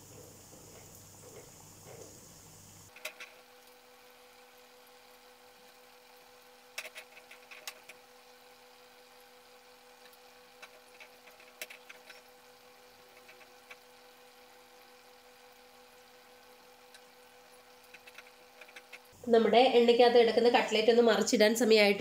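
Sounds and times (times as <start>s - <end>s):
oil sizzling with crackles: 0.0s - 19.3s
faint steady hum: 0.0s - 22.0s.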